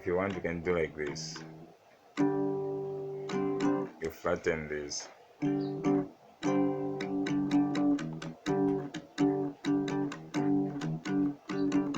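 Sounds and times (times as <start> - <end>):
guitar strumming power chords: 0.0 - 4.2, 5.4 - 11.9.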